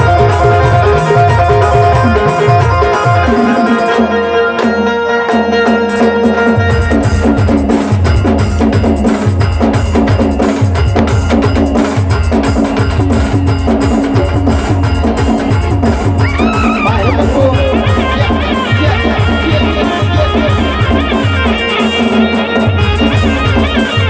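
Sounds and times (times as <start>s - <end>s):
fast drum beat: 0.0s - 4.1s, 5.8s - 24.0s
live band playing: 0.0s - 24.0s
sharp percussion strikes: 0.0s - 24.0s.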